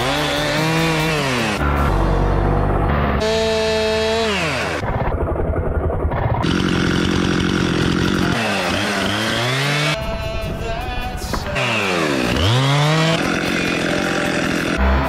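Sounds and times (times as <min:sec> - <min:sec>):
chainsaw running: 0:00.0 - 0:10.0, 0:11.4 - 0:15.0.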